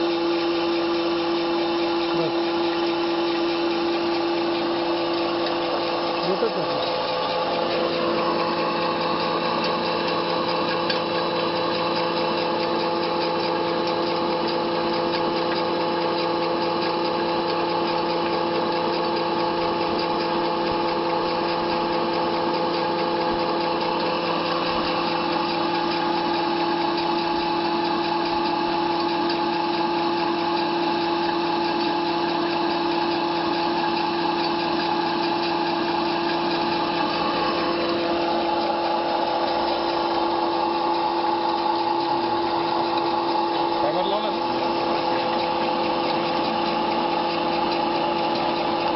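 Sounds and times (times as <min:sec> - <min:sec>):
pellet mill mechanical whine: 0:00.0 - 0:48.9.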